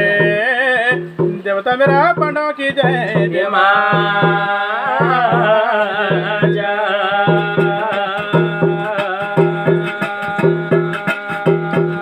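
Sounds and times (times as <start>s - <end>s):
drums beating steady rhythm: 0.0s - 12.0s.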